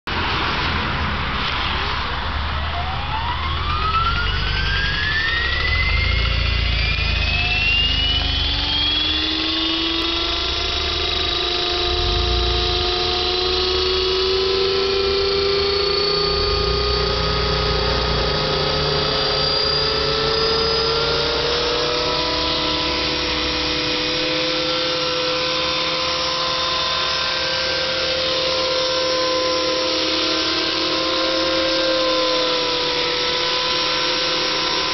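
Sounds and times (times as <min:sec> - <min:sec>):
rc helicopter rotor whine: 0:01.1 - 0:34.9.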